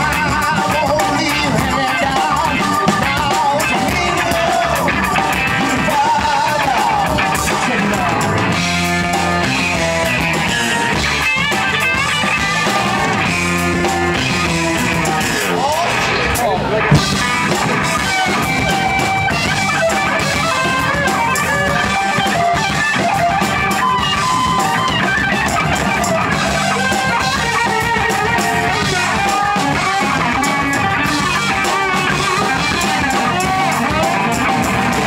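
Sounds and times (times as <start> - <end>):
bass guitar: 0.0 - 35.0
drum kit: 0.0 - 35.0
electric guitar solo: 6.4 - 35.0.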